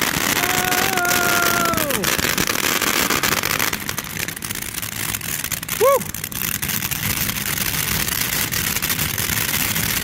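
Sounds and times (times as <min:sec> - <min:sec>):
firework crackling hiss: 0:00.0 - 0:10.0.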